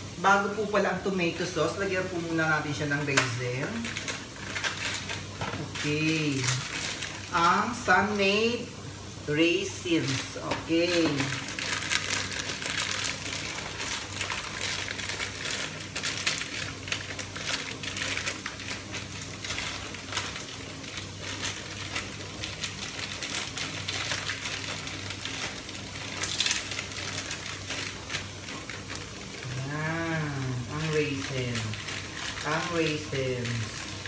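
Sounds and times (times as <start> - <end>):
small clicks and crackles in pan: 3.0 - 7.9, 10.1 - 29.6, 30.6 - 34.0.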